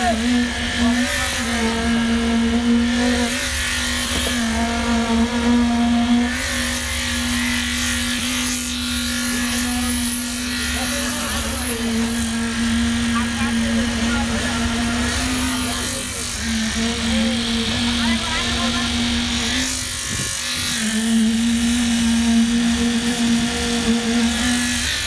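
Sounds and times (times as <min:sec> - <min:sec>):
concrete vibrator high hum: 0:00.0 - 0:25.0.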